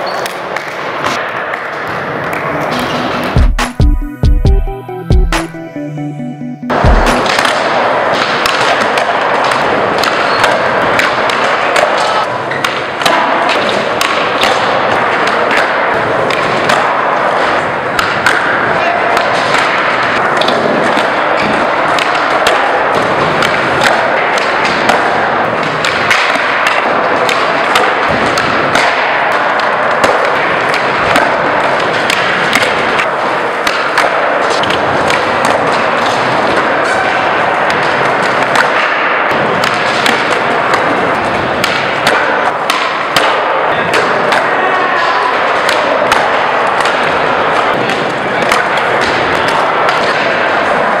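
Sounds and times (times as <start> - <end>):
skatepark background din: 0.0 - 4.2, 5.1 - 51.0
skateboards slapping on concrete: 8.0 - 51.0.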